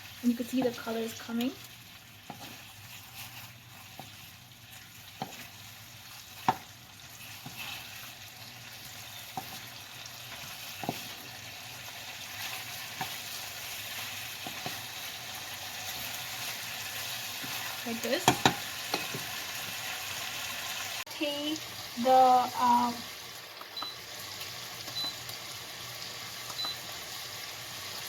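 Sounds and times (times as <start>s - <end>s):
chicken sizzling in a wok: 0.0s - 28.0s.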